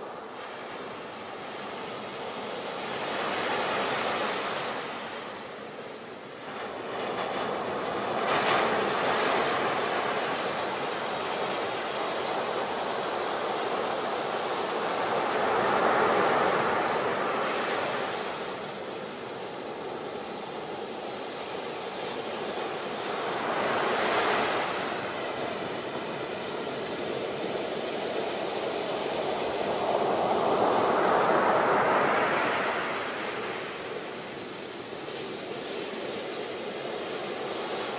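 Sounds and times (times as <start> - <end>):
ocean waves breaking on shore: 0.0 - 37.9.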